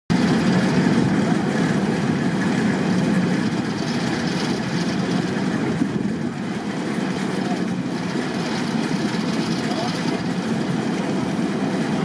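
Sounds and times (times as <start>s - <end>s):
diesel locomotive engine idling: 0.1s - 12.0s.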